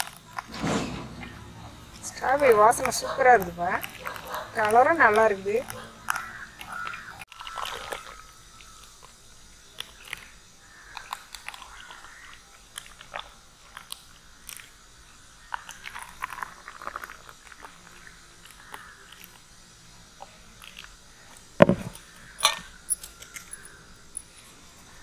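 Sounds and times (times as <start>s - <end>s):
juice trickling into cups: 2.1s - 25.0s.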